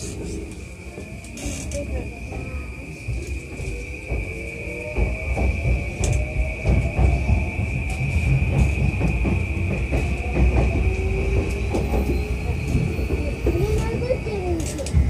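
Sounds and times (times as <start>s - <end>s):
traction motors whining: 0.0s - 15.0s
wheels rumbling on rail: 0.0s - 15.0s.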